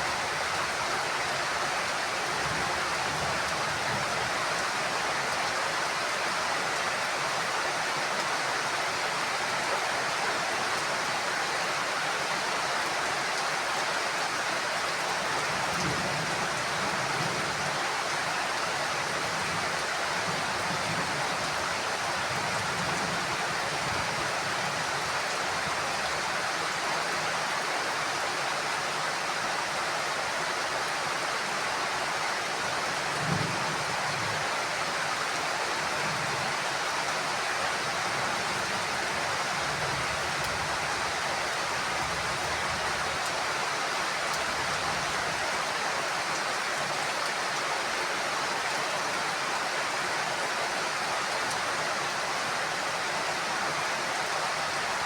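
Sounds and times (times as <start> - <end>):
heavy rain on roof: 0.0 - 55.0.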